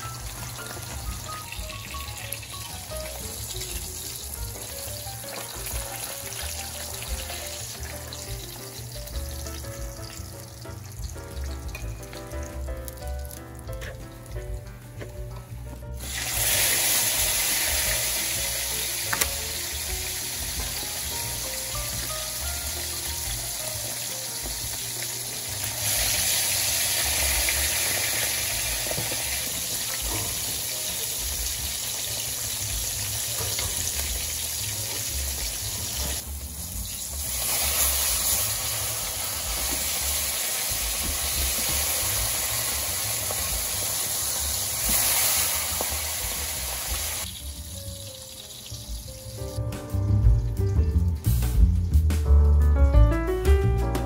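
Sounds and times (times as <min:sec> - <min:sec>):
fish sizzling in hot oil: 0:00.0 - 0:14.4, 0:16.0 - 0:52.1.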